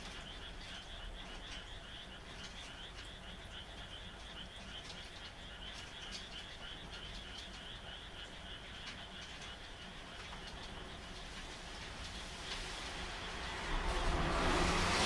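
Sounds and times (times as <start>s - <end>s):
water drips ticking: 0.0s - 13.8s
frogs calling: 0.0s - 14.5s
rain falling: 0.0s - 15.0s.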